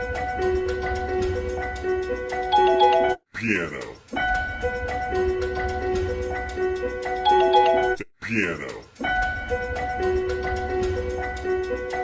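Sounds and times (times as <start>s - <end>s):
piano melody over low bass: 0.0s - 3.2s, 4.2s - 8.0s, 9.0s - 12.0s.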